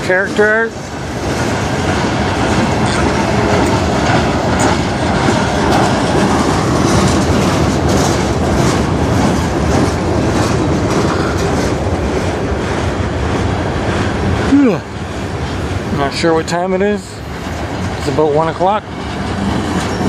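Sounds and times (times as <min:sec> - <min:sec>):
wheels clicking over rail joints: 0:00.0 - 0:14.5, 0:15.4 - 0:20.0
train wheels rumbling and rattling: 0:00.0 - 0:20.0.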